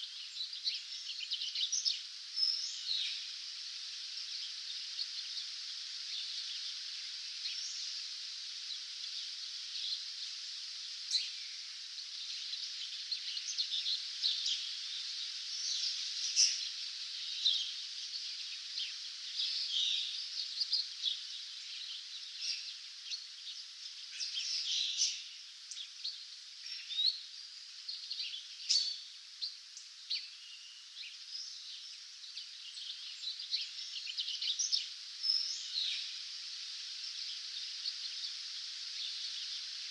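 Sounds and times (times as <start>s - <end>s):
songbirds chirping and trilling: 0.0s - 39.9s
steady high hiss: 0.0s - 39.9s.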